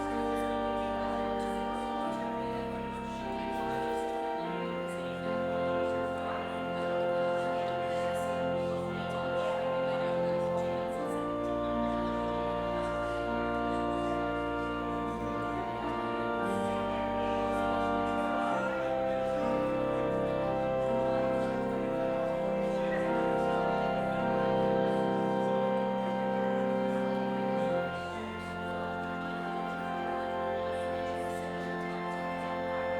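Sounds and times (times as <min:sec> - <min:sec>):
slow instrumental music: 0:00.0 - 0:32.9.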